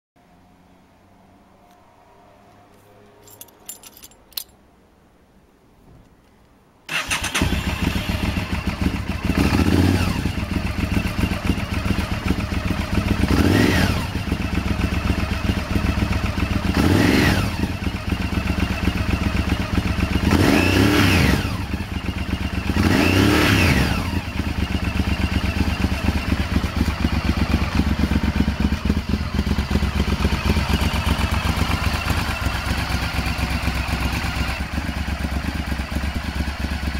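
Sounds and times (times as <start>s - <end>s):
motorcycle engine idling and revving: 6.9s - 36.9s.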